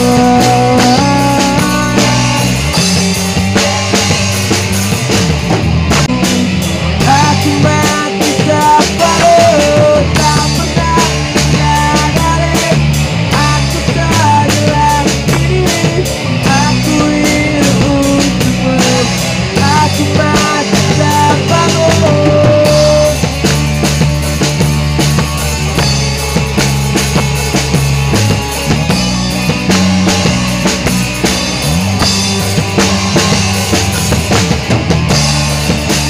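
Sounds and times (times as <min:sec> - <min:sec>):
drum kit beat: 0:00.0 - 0:36.0
electric bass: 0:00.0 - 0:36.0.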